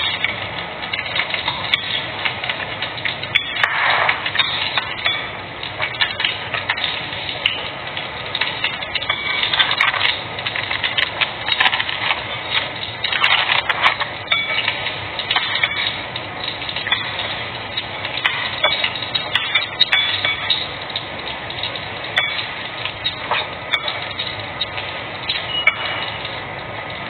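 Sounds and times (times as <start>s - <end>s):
clinks: 0.0s - 7.7s, 8.3s - 27.0s
crackling food: 0.0s - 27.0s.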